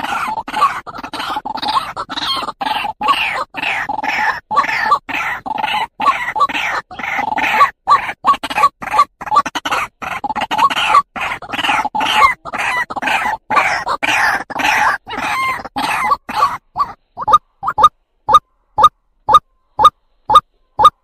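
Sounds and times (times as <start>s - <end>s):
waterhen calling ruak-ruak: 0.0s - 21.0s.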